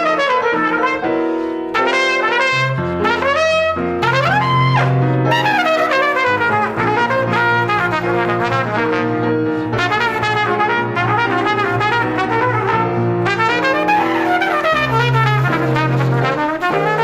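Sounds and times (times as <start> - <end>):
trumpets and trombones: 0.0 - 17.0
salsa music: 1.7 - 9.1, 9.8 - 17.0.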